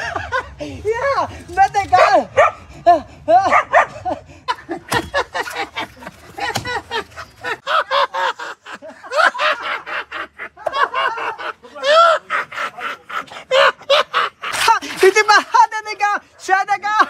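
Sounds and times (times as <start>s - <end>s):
man giggling and chattering: 0.0s - 1.7s, 2.7s - 16.0s.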